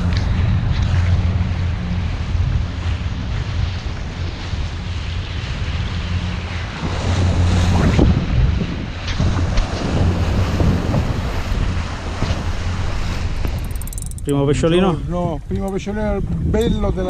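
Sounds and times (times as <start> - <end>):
hull slapping waves: 0.0 - 17.0
motorboat engine hum: 0.0 - 17.0
water rushing along hull: 0.0 - 17.0
wind buffeting microphone: 0.0 - 17.0.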